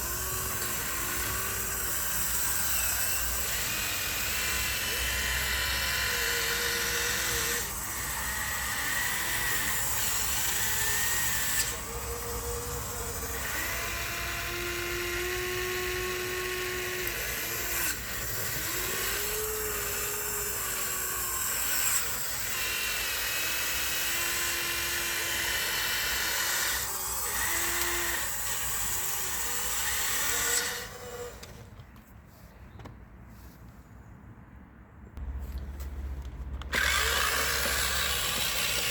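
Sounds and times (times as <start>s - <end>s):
small electric motors whining: 0.0s - 31.8s, 36.6s - 38.9s.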